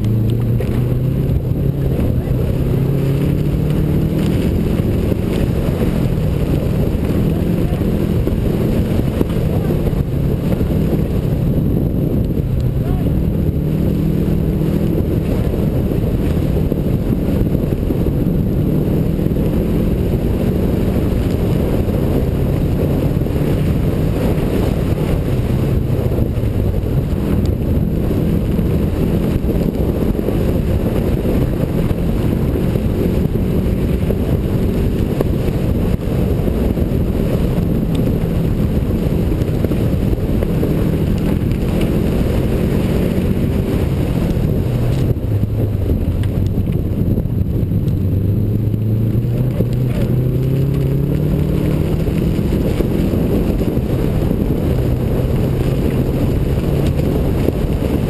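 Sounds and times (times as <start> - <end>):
rally car engine revving: 0.0 - 58.0
wind buffeting microphone: 0.0 - 58.0.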